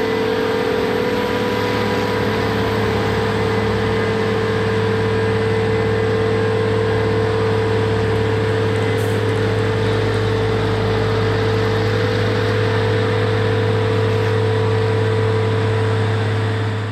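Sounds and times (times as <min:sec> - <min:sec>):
diesel engine droning: 0:00.0 - 0:16.9.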